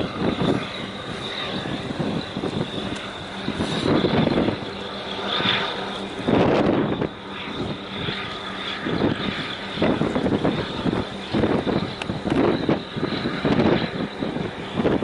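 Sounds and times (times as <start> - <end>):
boat engines droning: 0.0 - 15.0
constant high whine: 0.0 - 15.0
wind buffeting microphone: 0.0 - 15.0.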